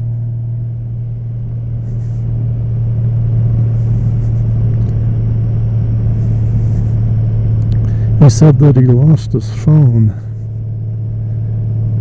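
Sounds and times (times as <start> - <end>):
motorcycle engine cruising: 0.0 - 12.0
wind and road rumble: 0.0 - 12.0.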